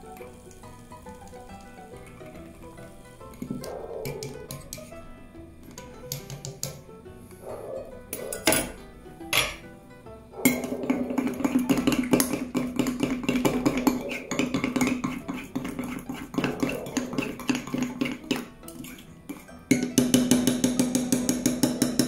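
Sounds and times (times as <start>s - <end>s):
spoon stirring batter in a mug: 0.0s - 5.0s, 5.7s - 6.8s, 10.4s - 22.0s
background music: 0.0s - 22.0s.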